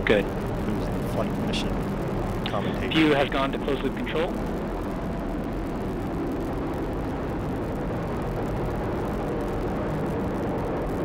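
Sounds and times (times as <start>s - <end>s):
rocket engines roaring: 0.0s - 11.0s.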